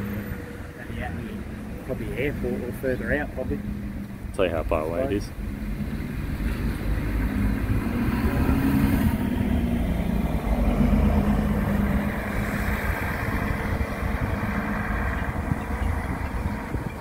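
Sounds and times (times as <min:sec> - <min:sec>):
diesel bus engine driving past: 0:00.0 - 0:17.0.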